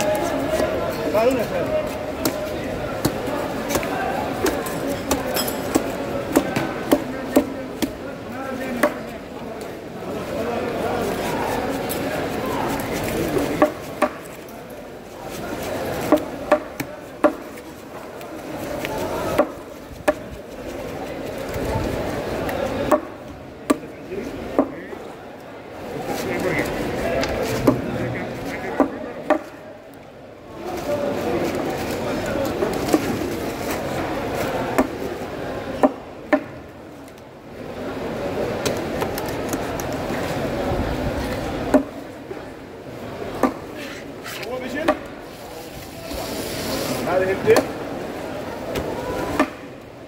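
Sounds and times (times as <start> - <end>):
background murmur: 0.0 - 50.0.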